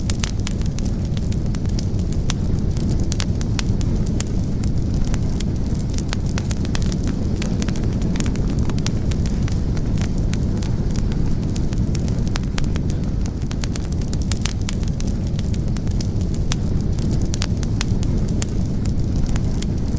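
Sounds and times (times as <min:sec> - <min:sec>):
fire crackling and popping: 0:00.0 - 0:19.9
low rumble of flames: 0:00.0 - 0:19.9.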